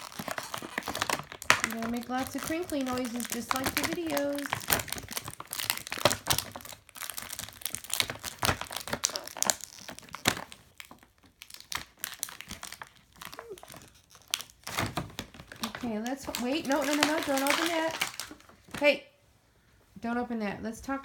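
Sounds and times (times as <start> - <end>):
plastic bags crinkling: 0.0 - 18.8.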